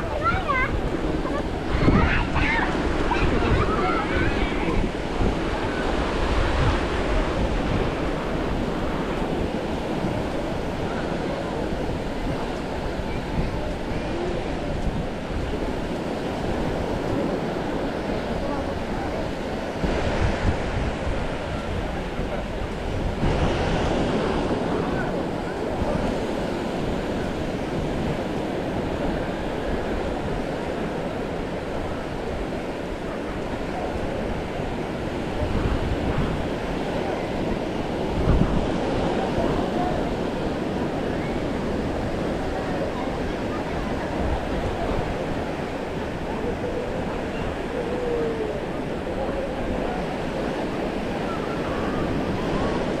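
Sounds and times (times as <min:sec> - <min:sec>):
ocean surf washing: 0:00.0 - 0:53.0
waves breaking on beach: 0:00.0 - 0:53.0
wind buffeting microphone: 0:00.0 - 0:53.0.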